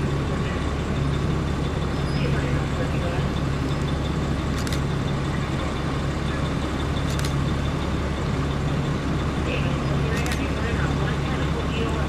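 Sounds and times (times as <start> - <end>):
cars driving slowly past: 0.0 - 12.0
road noise: 0.0 - 12.0.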